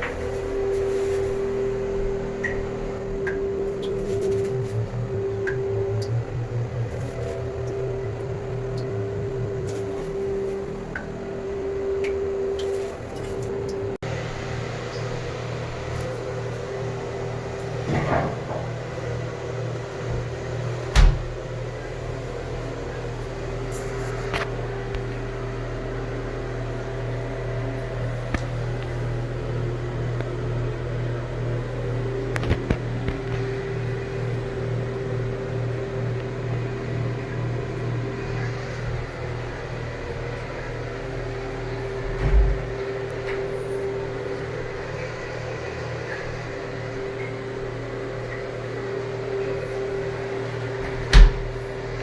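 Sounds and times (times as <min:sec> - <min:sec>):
electric motor hum with whine: 0:00.0 - 0:52.0.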